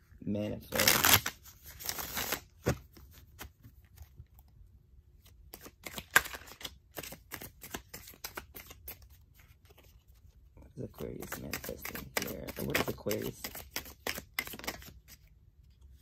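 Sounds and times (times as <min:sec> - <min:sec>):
cards shuffling by hand: 0:00.7 - 0:04.5, 0:05.2 - 0:16.0.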